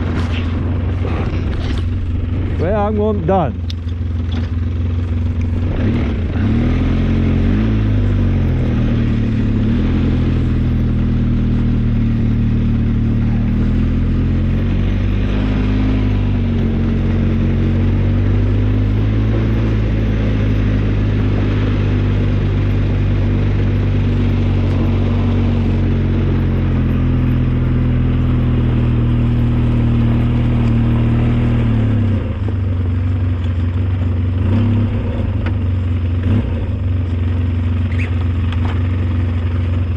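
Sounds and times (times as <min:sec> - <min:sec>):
snowplow engine running: 0:00.0 - 0:39.9.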